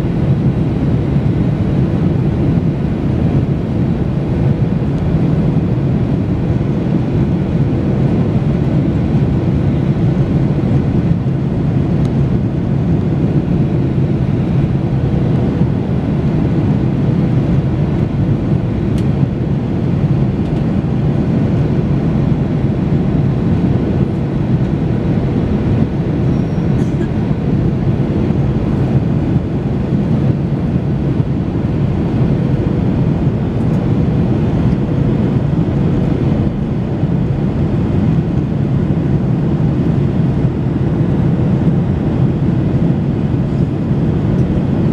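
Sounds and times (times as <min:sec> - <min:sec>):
aircraft engine and airflow noise: 0:00.0 - 0:44.9.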